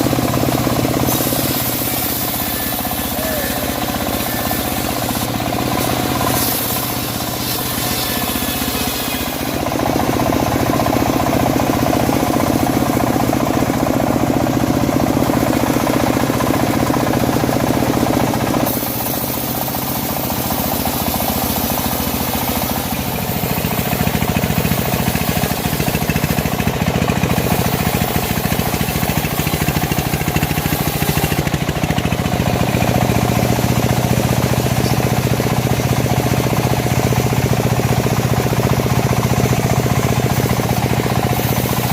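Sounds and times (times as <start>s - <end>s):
bandsaw sawmill sawing log: 0.0s - 41.9s.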